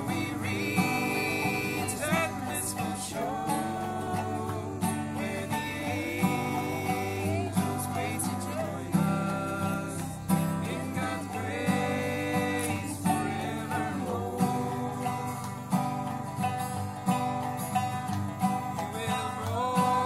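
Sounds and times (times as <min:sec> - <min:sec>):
person singing: 0:00.0 - 0:16.8, 0:17.6 - 0:20.0
acoustic guitar strumming: 0:00.0 - 0:20.0
banjo picking: 0:00.0 - 0:20.0.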